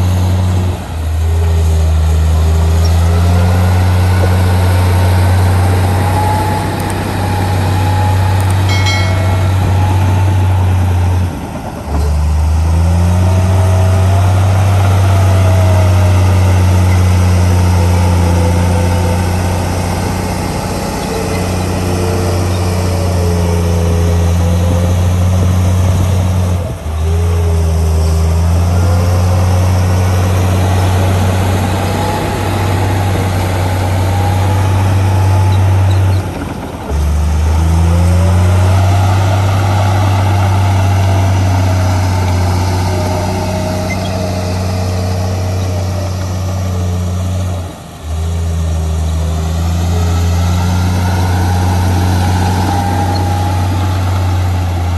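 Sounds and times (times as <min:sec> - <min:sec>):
bulldozer diesel engine under load: 0:00.0 - 0:54.9
wavering engine whine: 0:00.0 - 0:54.9.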